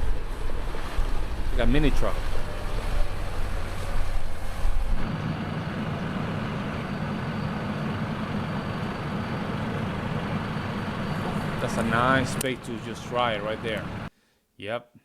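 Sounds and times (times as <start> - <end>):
deep engine rumble: 0.0 - 14.1
truck engine running: 0.0 - 14.1.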